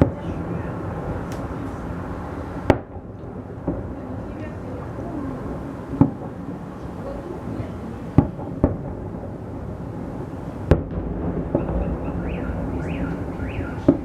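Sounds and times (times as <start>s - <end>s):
crowd voices: 0.0s - 14.0s
fireworks bangs: 0.0s - 14.0s.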